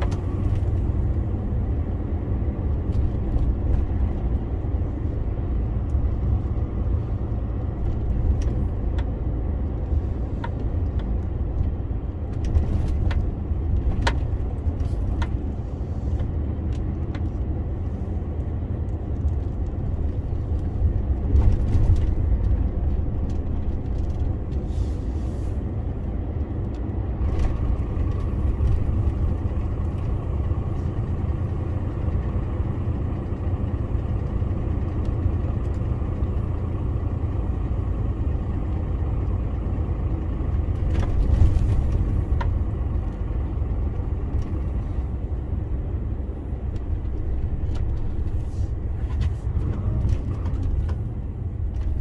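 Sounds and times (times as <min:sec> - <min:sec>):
diesel truck engine rumble: 0:00.0 - 0:52.0
road and tyre noise: 0:00.0 - 0:52.0.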